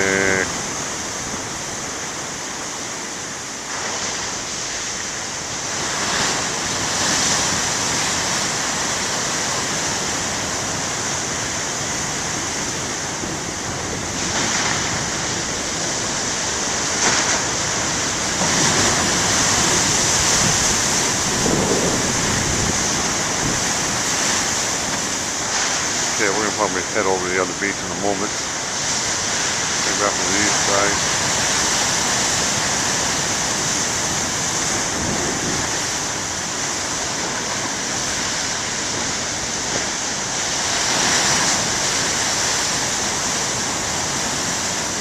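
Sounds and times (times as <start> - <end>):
ocean waves breaking: 0.0 - 45.0.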